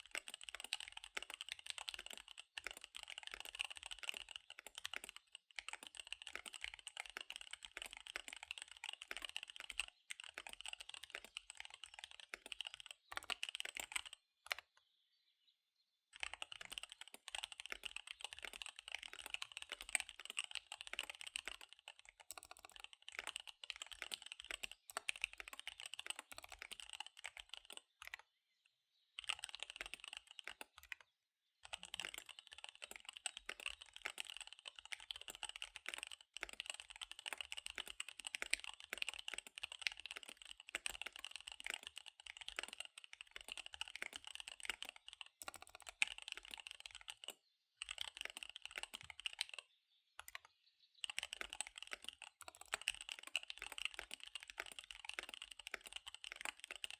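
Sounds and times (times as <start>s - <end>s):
mechanical keyboard typing: 0.0s - 14.8s, 16.1s - 28.2s, 29.2s - 56.9s.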